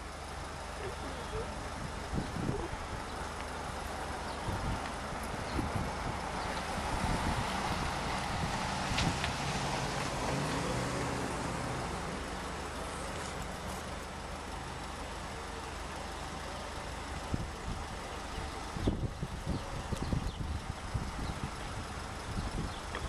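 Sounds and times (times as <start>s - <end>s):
low engine hum: 0.0s - 23.0s
rumble of vehicles: 0.0s - 23.0s.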